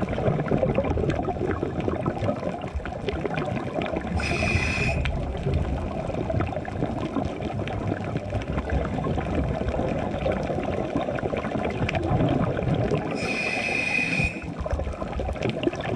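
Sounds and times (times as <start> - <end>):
bubbles gurgling underwater: 0.0 - 15.9
faint crackle: 0.0 - 15.9.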